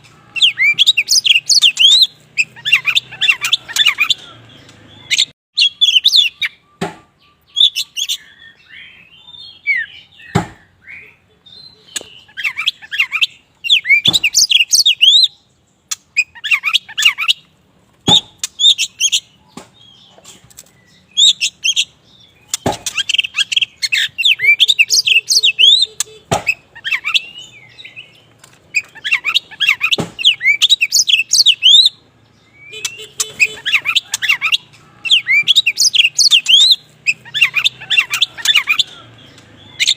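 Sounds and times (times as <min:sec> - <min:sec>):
bird singing whistles and chirps: 0:00.2 - 0:17.5, 0:18.1 - 0:39.9.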